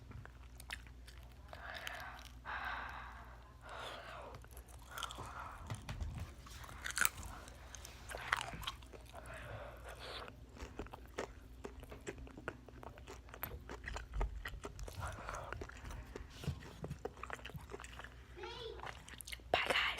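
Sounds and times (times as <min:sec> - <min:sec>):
wet chewing: 0:00.0 - 0:19.9.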